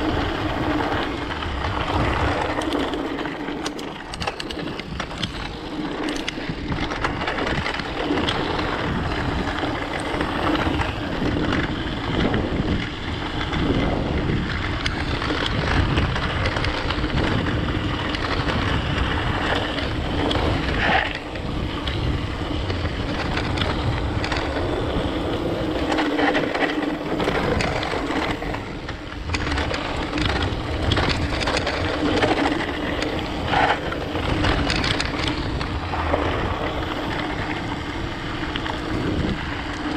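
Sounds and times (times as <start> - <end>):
bike rattling and knocking: 0.0 - 39.9
wind noise on microphone: 0.0 - 39.9.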